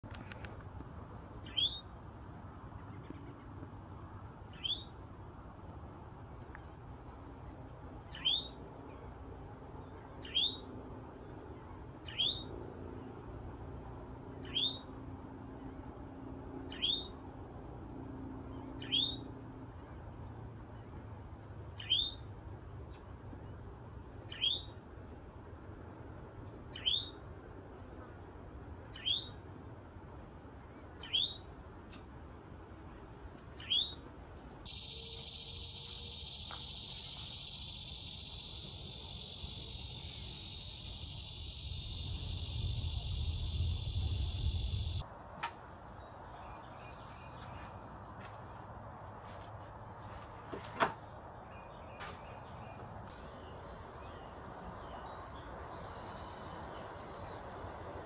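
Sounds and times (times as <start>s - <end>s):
high drone of insects: 0.0s - 45.2s, 52.6s - 58.0s.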